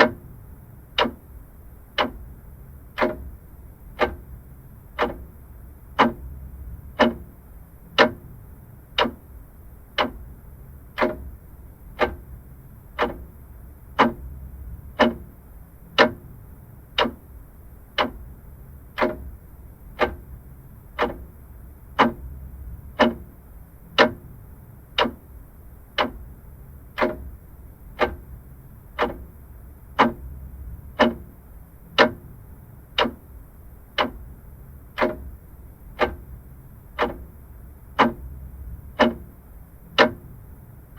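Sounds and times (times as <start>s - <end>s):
mechanical clock ticking: 0.0s - 40.6s.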